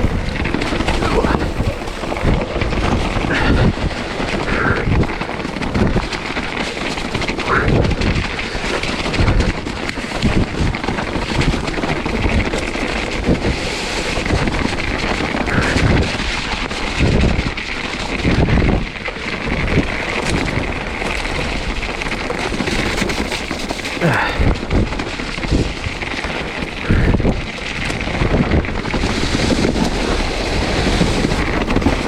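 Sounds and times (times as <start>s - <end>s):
bike knocking and rattling: 0.0s - 32.0s
wind rushing over microphone: 0.0s - 32.0s.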